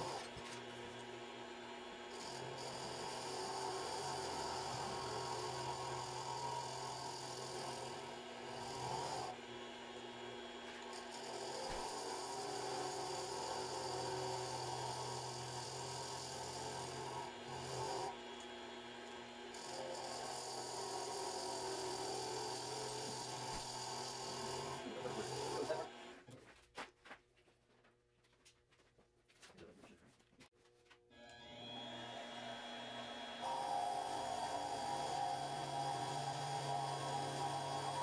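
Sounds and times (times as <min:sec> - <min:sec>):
lathe motor humming: 0:00.0 - 0:26.2, 0:31.2 - 0:38.0
lathe tool scraping wood: 0:00.0 - 0:26.2, 0:31.5 - 0:38.0.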